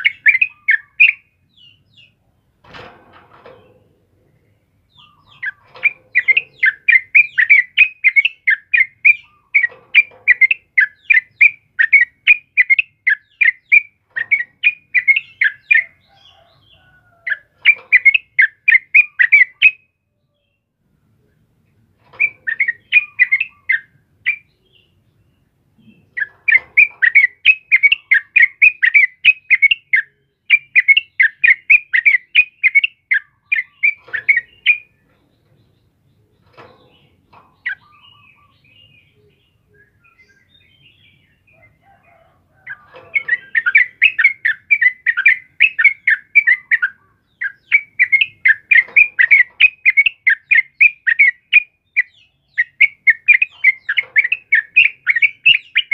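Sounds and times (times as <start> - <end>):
bird singing chirpy notes: 0.0 - 2.6, 3.6 - 21.5, 22.1 - 55.9.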